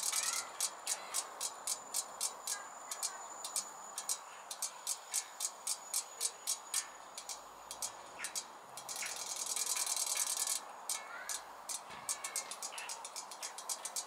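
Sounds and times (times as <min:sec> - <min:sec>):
toy fish ticking: 0:00.0 - 0:14.0.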